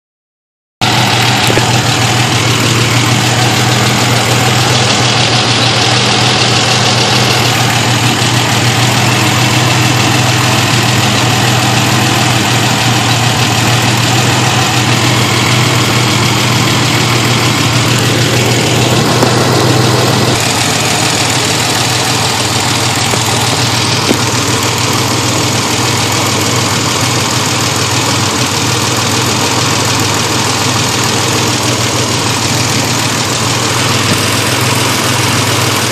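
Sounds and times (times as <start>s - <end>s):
car engine idling: 0.8s - 35.9s
engine ticking: 0.8s - 35.9s.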